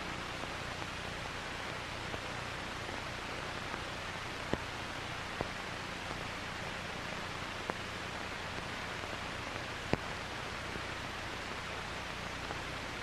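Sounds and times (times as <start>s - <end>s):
soundtrack hiss: 0.0s - 13.0s.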